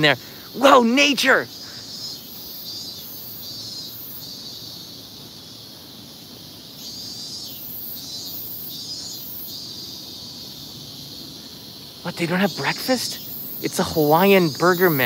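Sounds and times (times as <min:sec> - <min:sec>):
insects singing in pulsing phrases: 0:00.0 - 0:15.0.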